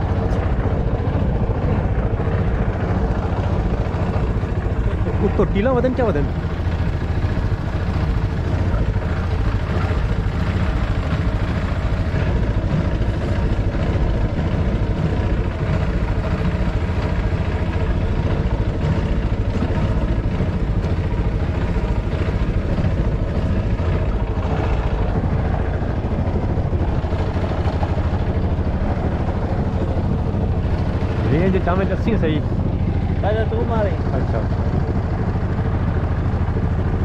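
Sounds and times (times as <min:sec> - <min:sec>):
boat motor running: 0:00.0 - 0:37.0.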